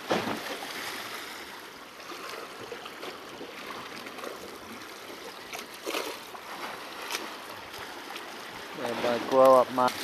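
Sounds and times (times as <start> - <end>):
seawater washing over rocks: 0.0 - 10.0.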